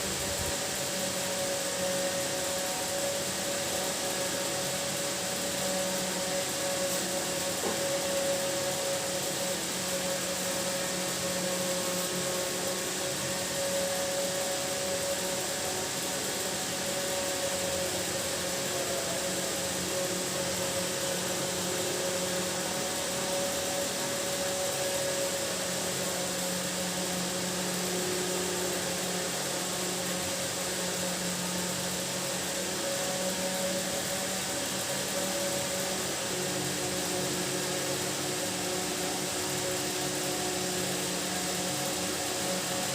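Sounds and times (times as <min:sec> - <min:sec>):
machine hum and hiss: 0:00.0 - 0:42.9.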